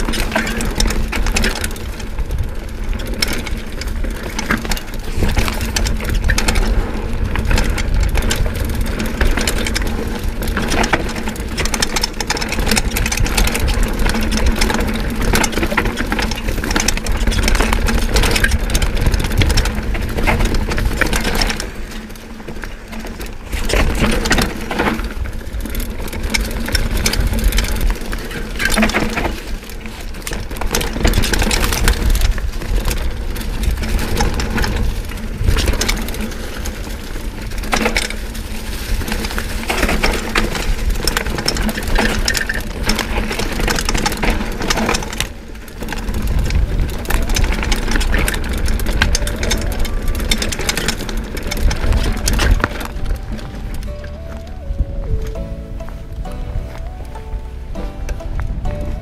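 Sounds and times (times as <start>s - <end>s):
bike rattling and knocking: 0.0s - 59.0s
tyres on dirt trail: 0.0s - 59.0s
wind buffeting microphone: 0.0s - 59.0s.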